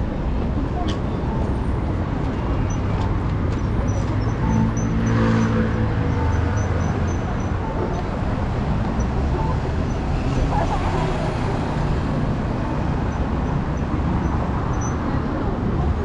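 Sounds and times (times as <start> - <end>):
city traffic rumbling: 0.0 - 16.0.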